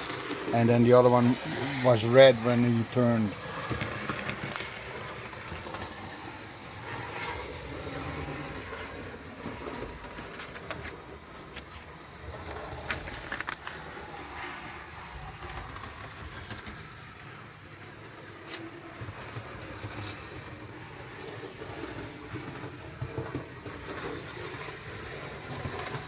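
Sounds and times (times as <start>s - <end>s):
model train motor and wheels: 0.0s - 26.0s.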